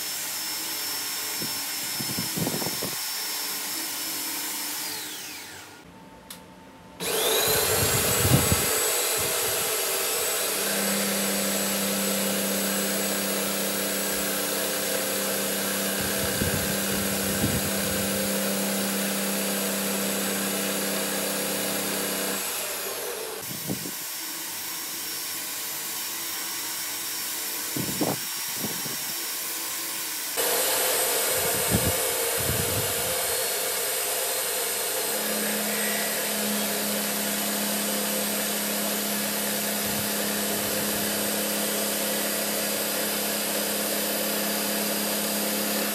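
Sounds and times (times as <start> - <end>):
metal lathe whirring: 7.0 - 45.9.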